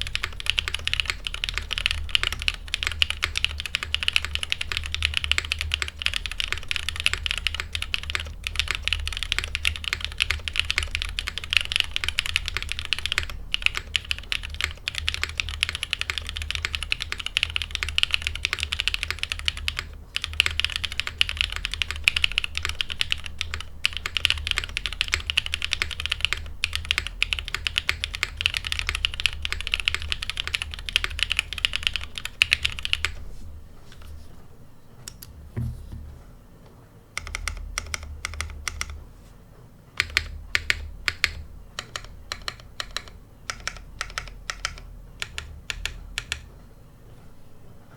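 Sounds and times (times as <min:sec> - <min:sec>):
fast typing on mechanical keyboard: 0:00.0 - 0:33.2, 0:37.2 - 0:39.0, 0:40.0 - 0:46.5.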